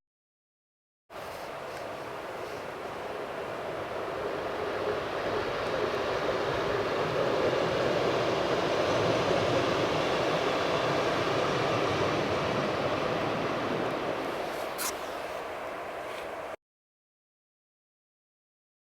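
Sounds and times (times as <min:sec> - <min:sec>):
train rumbling past: 0:01.1 - 0:16.6.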